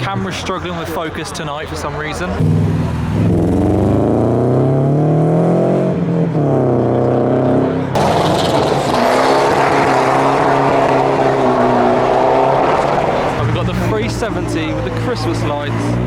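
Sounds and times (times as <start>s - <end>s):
car engine revving: 2.0s - 16.0s.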